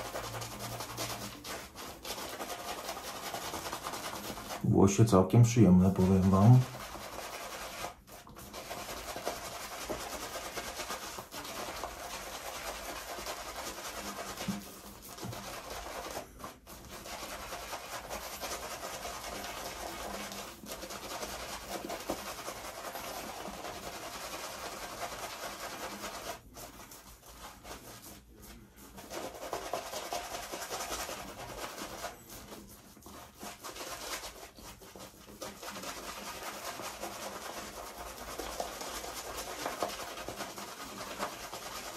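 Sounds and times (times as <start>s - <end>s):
shaving brush wet rubbing: 0.0s - 41.9s.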